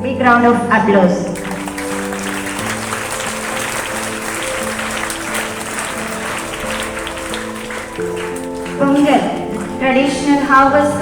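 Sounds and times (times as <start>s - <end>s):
slow instrumental music: 0.0s - 11.0s
crowd applauding: 1.3s - 11.0s.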